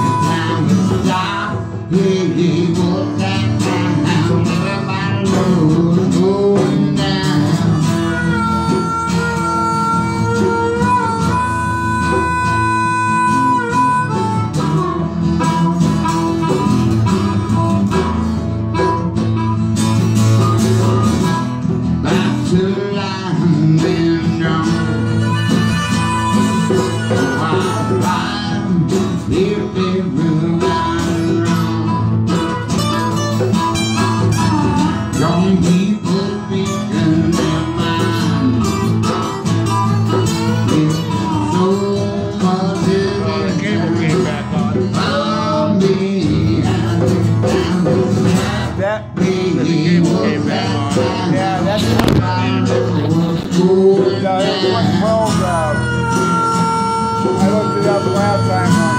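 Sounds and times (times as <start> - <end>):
harmonica bending notes: 0.0 - 58.9
strummed acoustic guitars: 0.0 - 58.9.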